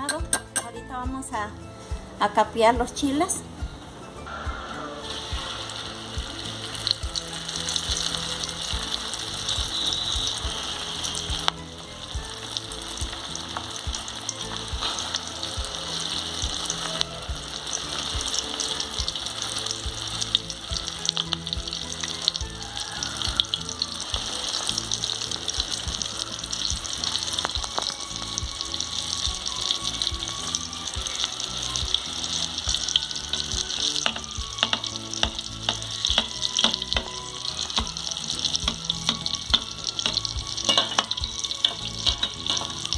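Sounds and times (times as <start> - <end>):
crackles of frying oil: 0.0 - 42.9
food frying in hot oil: 5.0 - 42.9.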